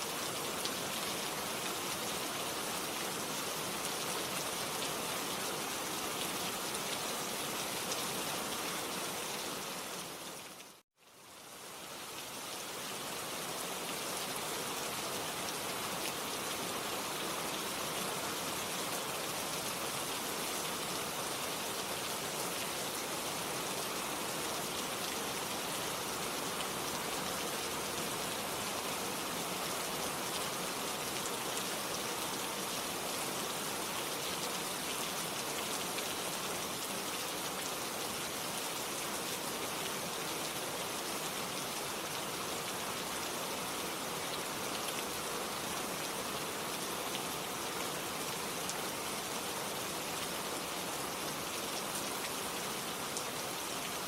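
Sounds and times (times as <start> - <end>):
rain drops hitting a surface: 0.0 - 54.0.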